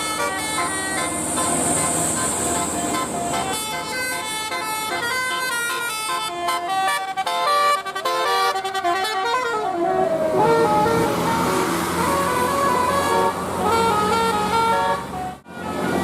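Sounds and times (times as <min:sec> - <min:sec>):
multi-tone musical air horn: 0:00.0 - 0:15.4.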